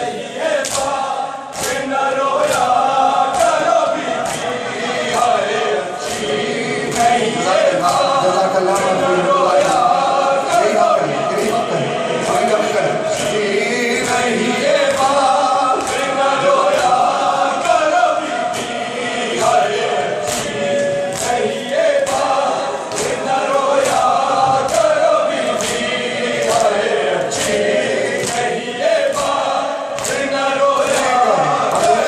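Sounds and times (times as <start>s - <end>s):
men chanting in chorus: 0.0s - 32.0s
hands slapping chests: 0.6s - 11.7s, 14.0s - 32.0s.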